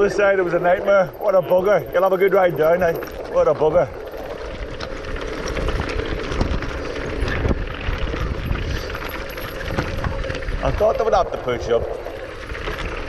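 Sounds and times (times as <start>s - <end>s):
bike rattling: 0.0s - 13.0s
tyres crunching over rocks: 0.0s - 13.0s.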